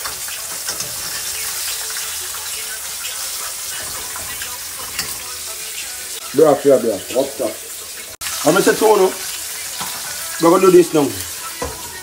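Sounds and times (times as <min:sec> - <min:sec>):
chicken frying in oil: 0:00.0 - 0:12.0.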